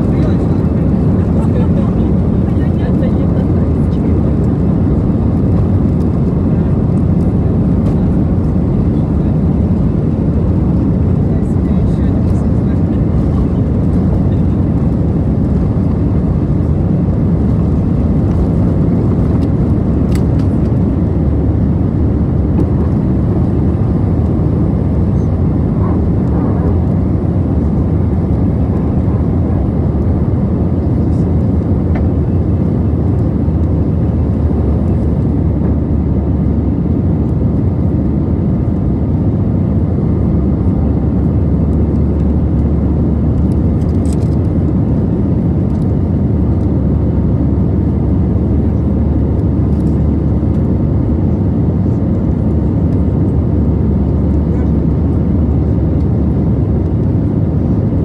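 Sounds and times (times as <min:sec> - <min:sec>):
aircraft engines rumbling: 0:00.0 - 0:58.0.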